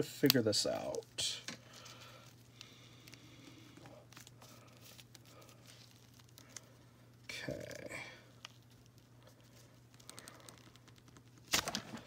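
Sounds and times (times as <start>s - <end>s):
low steady hum: 0.0s - 12.0s
hands clicking and rustling plastic: 0.2s - 6.8s, 8.3s - 12.0s.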